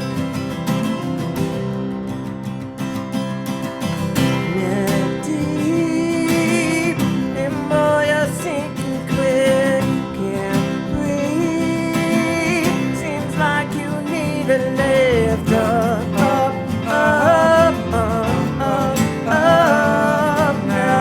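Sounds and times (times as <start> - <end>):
country band music: 0.0 - 21.0
strummed acoustic guitar: 0.0 - 21.0.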